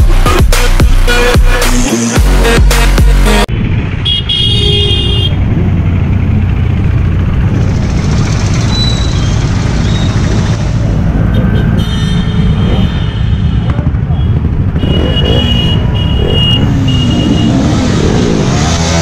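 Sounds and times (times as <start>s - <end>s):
motorcycle engines running: 3.5s - 19.0s.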